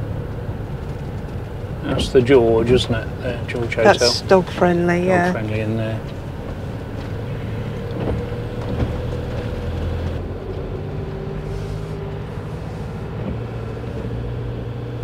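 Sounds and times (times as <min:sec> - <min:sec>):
motorhome engine running: 0:00.0 - 0:15.0
tyres on wet road: 0:00.0 - 0:15.0.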